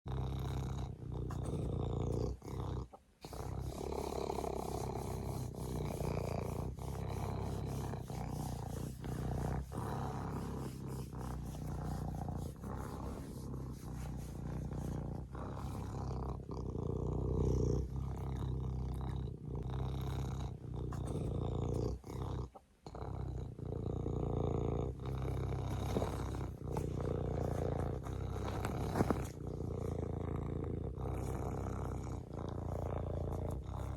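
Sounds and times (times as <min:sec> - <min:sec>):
wild cat purring: 0:00.0 - 0:33.9.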